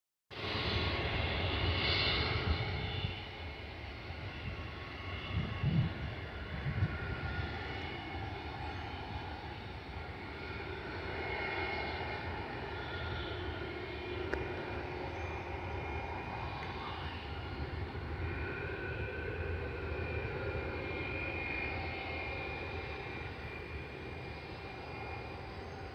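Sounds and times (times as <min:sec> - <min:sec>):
distant jet engines on runway: 0:00.3 - 0:25.9.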